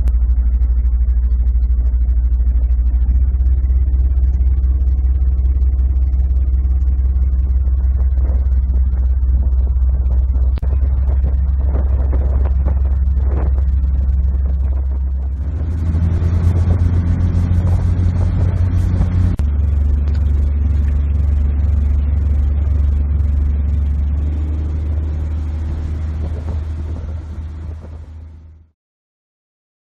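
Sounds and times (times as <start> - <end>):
engine droning: 0.0 - 28.7.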